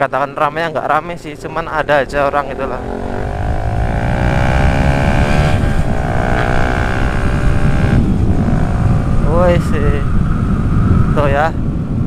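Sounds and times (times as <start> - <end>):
wind rumble on microphone: 1.2 - 12.0
motorcycle engine accelerating: 1.4 - 11.2.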